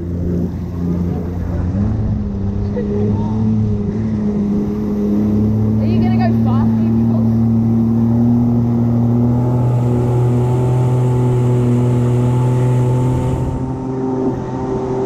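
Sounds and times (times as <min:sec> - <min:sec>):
jet ski engine running: 0:00.0 - 0:15.0
water wake and spray rushing: 0:00.0 - 0:15.0.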